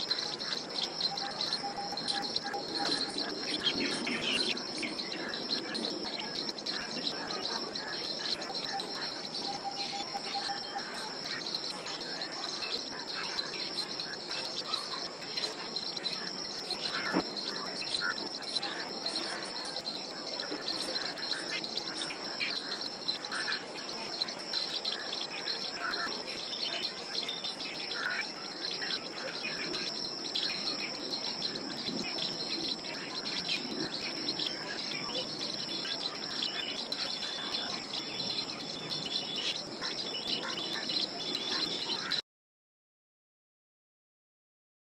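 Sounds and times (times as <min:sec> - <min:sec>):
high-pitched insect chorus: 0:00.0 - 0:42.2.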